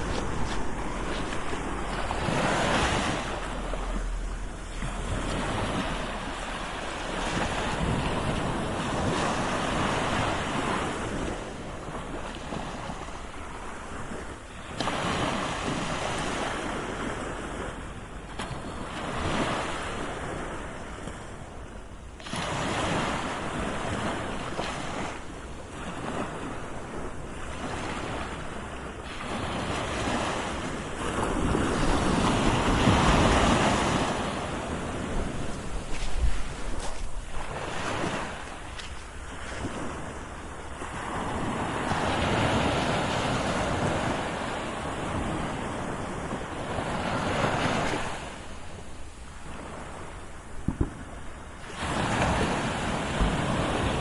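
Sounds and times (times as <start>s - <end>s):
sea waves surging: 0.0s - 54.0s.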